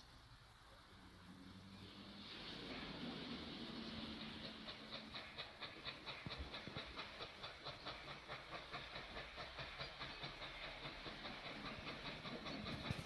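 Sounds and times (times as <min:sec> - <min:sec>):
steam hissing: 0:00.0 - 0:13.0
steam locomotive chuffing: 0:00.0 - 0:13.0.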